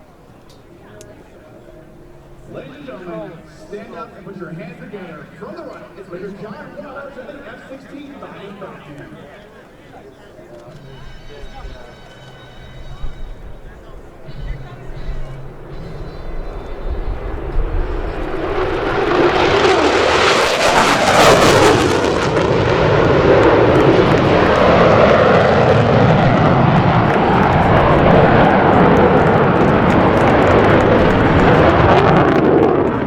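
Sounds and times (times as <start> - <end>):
jet engine roar: 0.0 - 9.8, 12.6 - 33.0.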